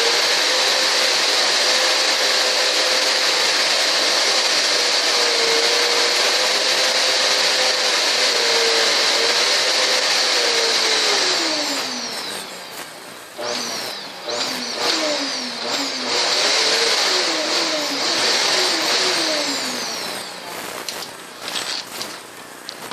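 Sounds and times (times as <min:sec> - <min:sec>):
vacuum cleaner motor whine: 0:00.0 - 0:22.9.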